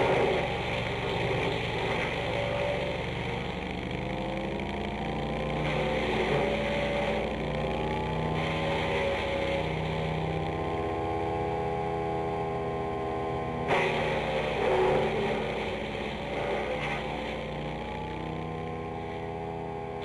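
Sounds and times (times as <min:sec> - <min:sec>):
wood chipper engine running: 0:00.0 - 0:20.0.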